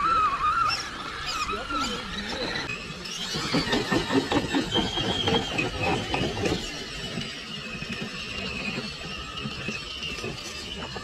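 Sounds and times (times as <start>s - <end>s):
high-pitched electric motor whine: 0.0s - 11.0s.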